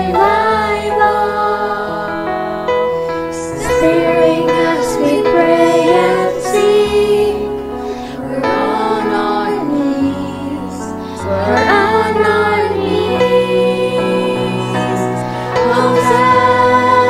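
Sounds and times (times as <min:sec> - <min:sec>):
children singing worship song: 0:00.0 - 0:17.0
sustained backing chords: 0:00.0 - 0:17.0.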